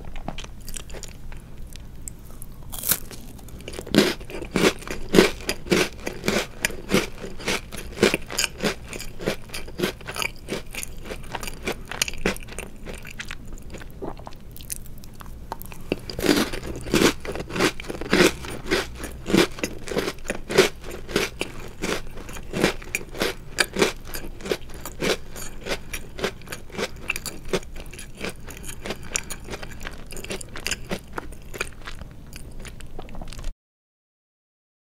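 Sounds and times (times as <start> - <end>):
crunching and chewing cookies: 0.0 - 33.5.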